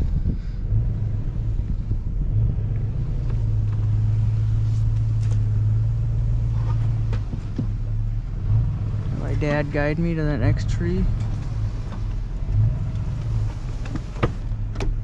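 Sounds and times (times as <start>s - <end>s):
truck engine droning under load: 0.0s - 15.0s.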